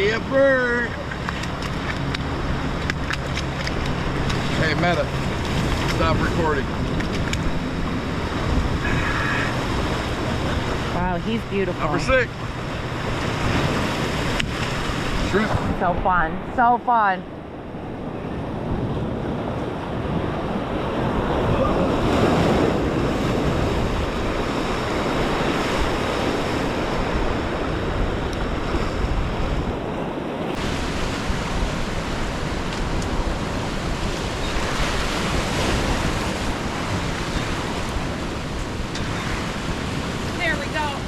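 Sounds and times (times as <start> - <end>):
ocean surf against rocks: 0.0 - 41.0
wind buffeting microphone: 0.0 - 41.0.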